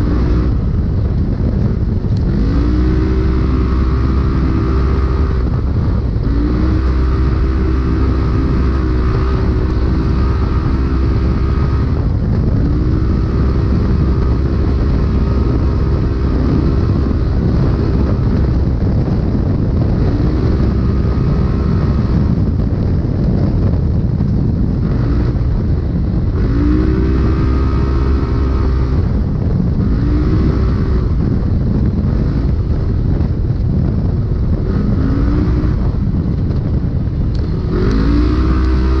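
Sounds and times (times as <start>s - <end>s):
engine revving: 0.0s - 33.4s, 34.1s - 39.0s
heavy rumble: 0.0s - 39.0s
steady rush of noise: 0.0s - 39.0s.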